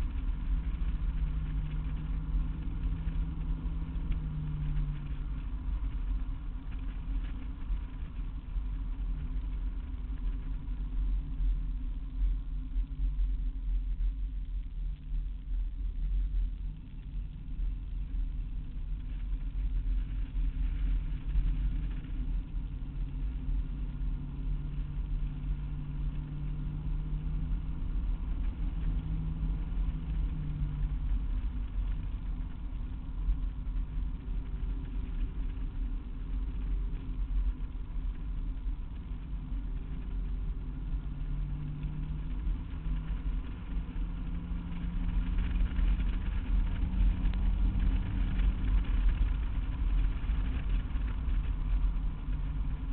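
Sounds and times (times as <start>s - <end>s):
low road rumble: 0.0s - 52.9s.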